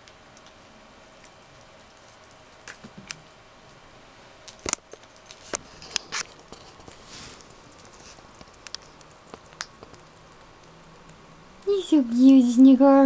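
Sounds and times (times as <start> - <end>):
hedgehog chewing and crunching: 0.0 - 3.8, 4.4 - 13.0.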